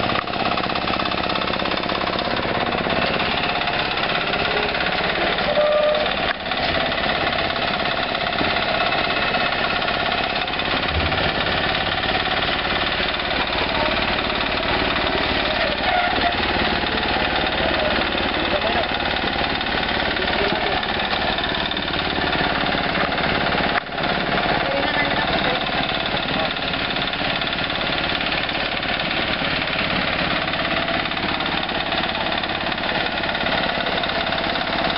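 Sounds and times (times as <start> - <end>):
machinery rattling: 0.0 - 34.9.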